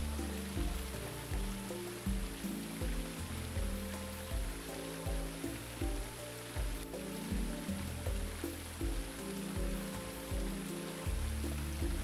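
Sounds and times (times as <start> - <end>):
low held music notes: 0.0 - 12.0
steady hiss: 0.0 - 12.0.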